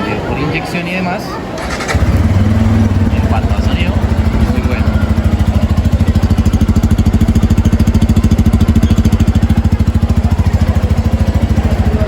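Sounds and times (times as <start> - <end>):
motorcycle engine idling: 1.6 - 12.0.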